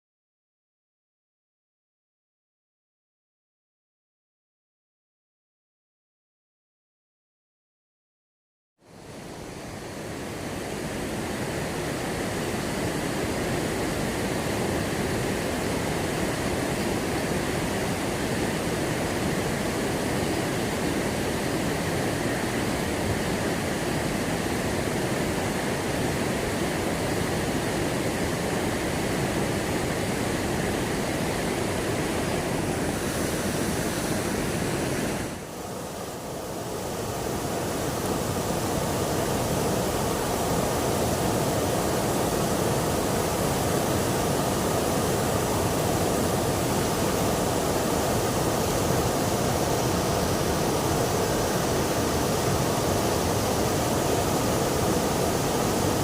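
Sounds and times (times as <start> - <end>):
flowing water rushing: 8.8 - 56.0.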